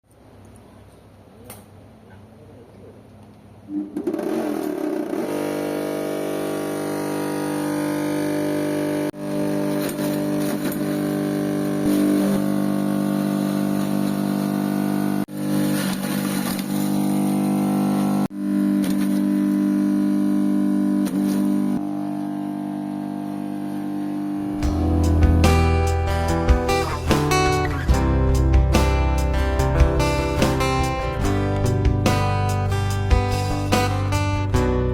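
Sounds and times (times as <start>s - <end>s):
grass chopper motor running: 4.0s - 34.9s.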